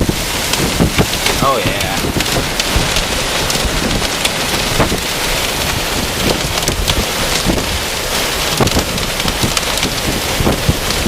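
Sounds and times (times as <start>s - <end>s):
heavy rain: 0.0s - 11.0s
raindrop strikes: 0.0s - 11.0s
wind: 0.0s - 11.0s.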